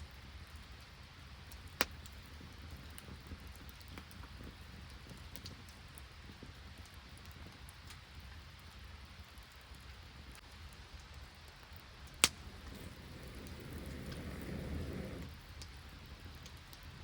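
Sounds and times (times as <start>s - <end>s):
rain and sleet pattering: 0.0s - 17.0s.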